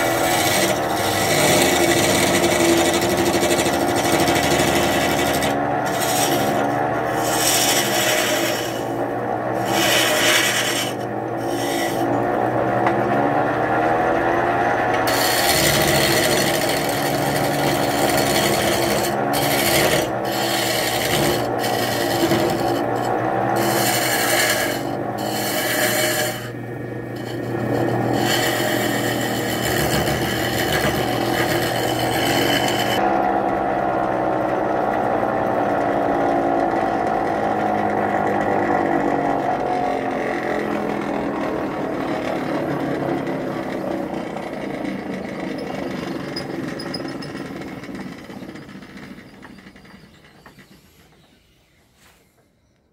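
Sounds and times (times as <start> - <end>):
lathe motor hum: 0.0 - 51.4
chisel cutting spinning wood: 0.0 - 51.8.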